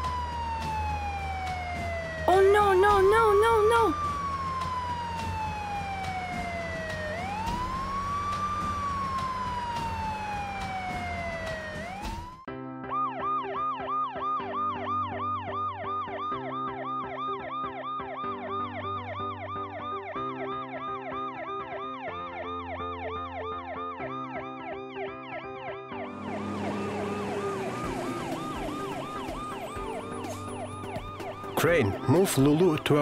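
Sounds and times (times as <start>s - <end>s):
police siren yelping: 0.0s - 32.4s.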